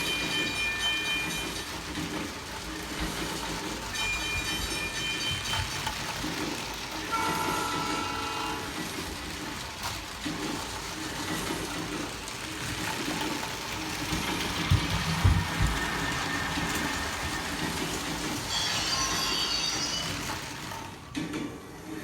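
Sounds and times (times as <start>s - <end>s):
toy train rattling on plastic track: 0.0s - 22.0s.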